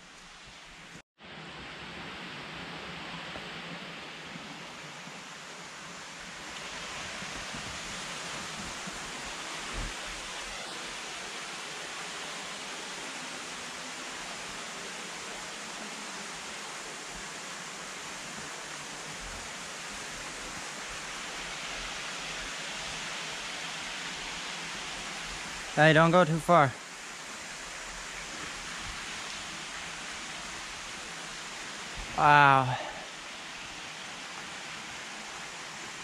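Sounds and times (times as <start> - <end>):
waterfall rushing: 3.8 - 36.0.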